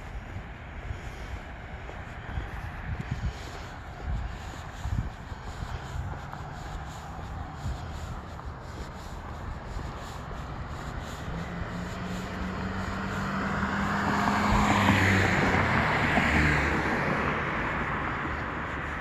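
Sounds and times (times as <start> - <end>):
tyre noise on road: 0.0 - 19.0
vehicle engine hum: 0.0 - 19.0.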